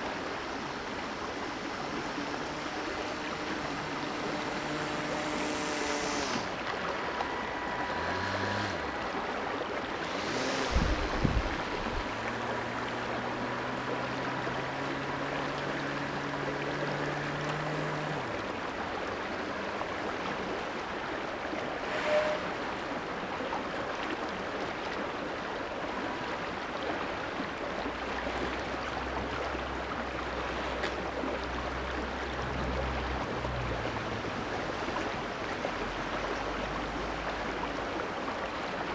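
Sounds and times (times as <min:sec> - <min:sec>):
creek water rippling: 0:00.0 - 0:38.9
model boat propeller humming: 0:00.0 - 0:38.9.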